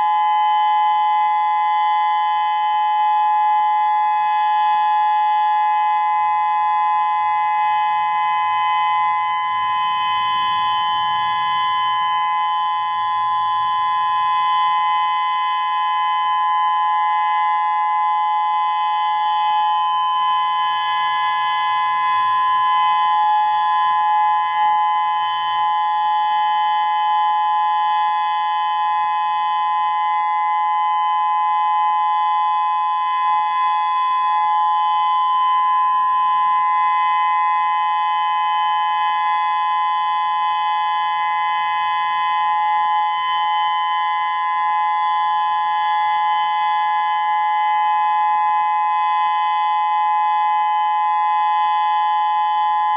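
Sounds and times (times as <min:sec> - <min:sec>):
electronic warning siren steady tone: 0:00.0 - 0:52.9.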